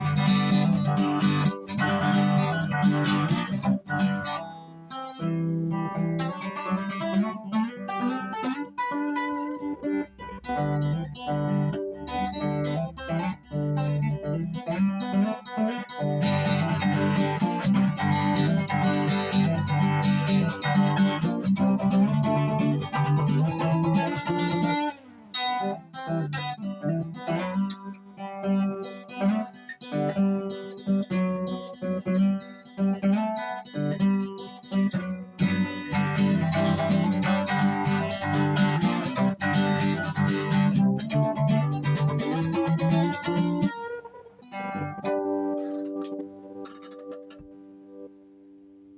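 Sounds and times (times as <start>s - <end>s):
acoustic guitar strummed and picked: 0.0s - 48.9s.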